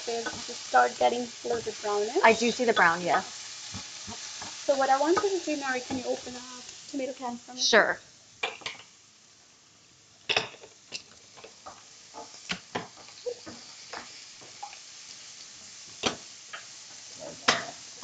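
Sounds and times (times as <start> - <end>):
onions sizzling in a pan: 0.0 - 18.0.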